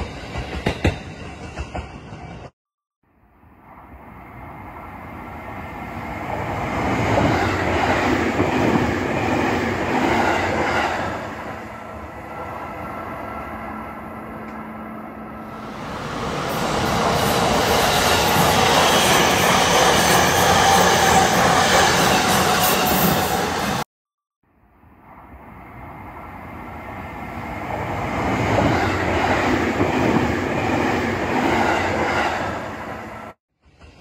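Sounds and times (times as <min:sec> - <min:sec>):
electric train running on rails: 0:00.0 - 0:02.5, 0:03.5 - 0:23.9, 0:24.8 - 0:34.0.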